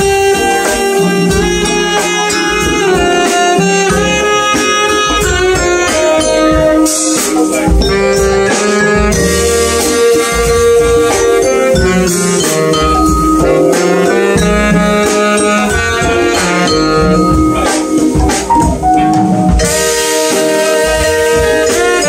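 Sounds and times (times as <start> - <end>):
drum kit: 0.0 - 22.0
saxophone: 0.0 - 22.0
vibraphone: 0.0 - 22.0.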